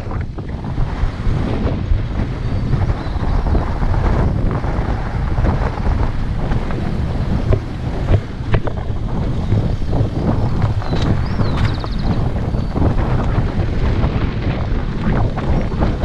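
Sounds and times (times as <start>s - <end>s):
low rumble of travel: 0.0s - 16.0s
wind buffeting microphone: 0.0s - 16.0s.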